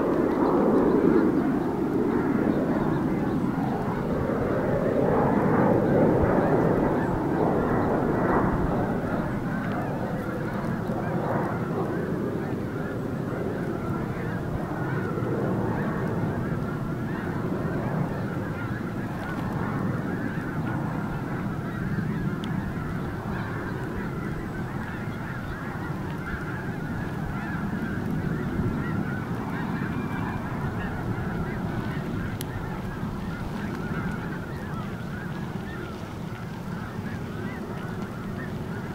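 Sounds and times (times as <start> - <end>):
flock of geese honking: 0.0 - 38.9.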